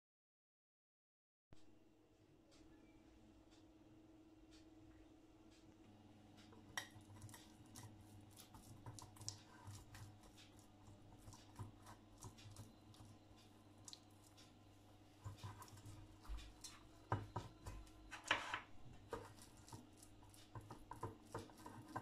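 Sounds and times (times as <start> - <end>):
faint steady hum: 1.6 - 22.0.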